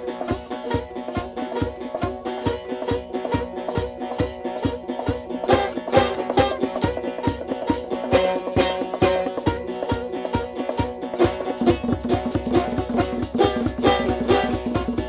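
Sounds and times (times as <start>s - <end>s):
shaken rattle percussion: 0.0s - 15.0s
sustained instrumental notes: 0.0s - 15.0s.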